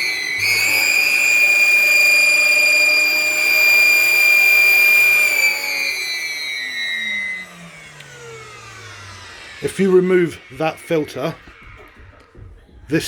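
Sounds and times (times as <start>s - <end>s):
vacuum cleaner motor whining: 0.0s - 13.0s.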